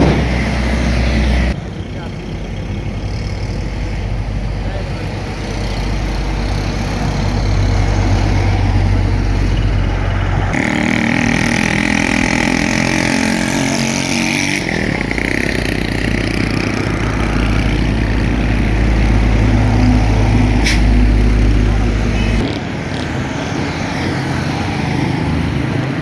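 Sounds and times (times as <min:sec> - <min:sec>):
engine high whine: 0:00.0 - 0:26.0
heavy road traffic: 0:00.0 - 0:26.0.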